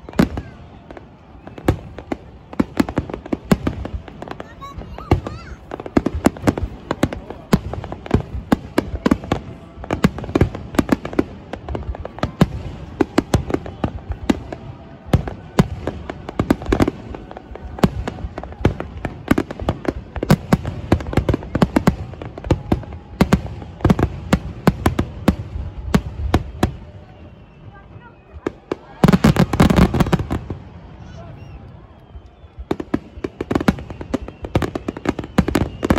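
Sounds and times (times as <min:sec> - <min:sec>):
fireworks bursting: 0:00.0 - 0:35.9.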